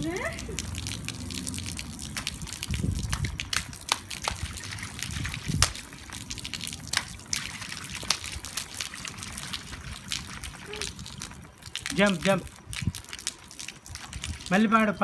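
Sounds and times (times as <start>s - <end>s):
rain falling: 0.0s - 15.0s
water drips and splashes: 0.0s - 15.0s
water trickling: 0.0s - 15.0s.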